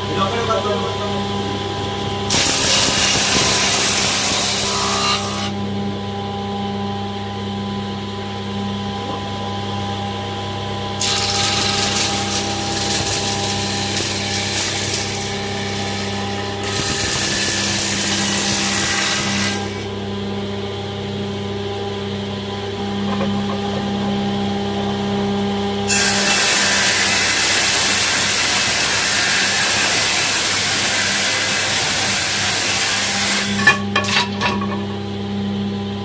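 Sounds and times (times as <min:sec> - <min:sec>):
woodworking machine motor hum: 0:00.0 - 0:33.9.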